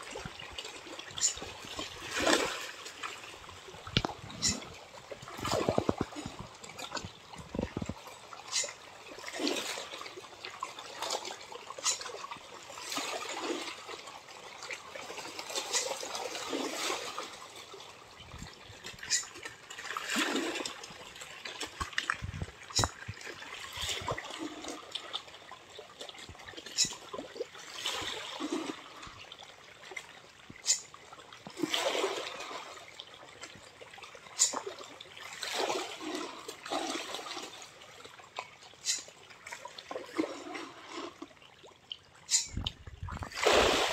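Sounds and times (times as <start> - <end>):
fish thrashing and splashing water: 0.0 - 41.8, 42.4 - 43.9.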